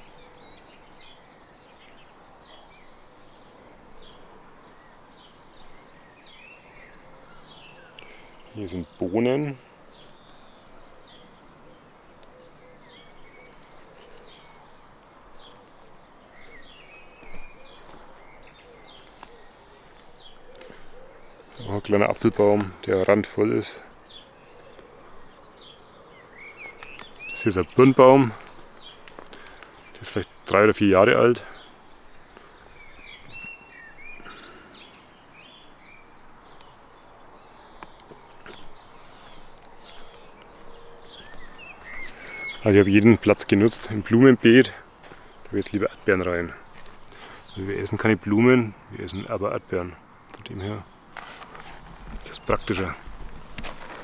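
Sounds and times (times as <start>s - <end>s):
faint background noise: 0.0s - 54.0s
faint outdoor background noise: 0.0s - 54.0s
small birds chirping: 0.0s - 54.0s.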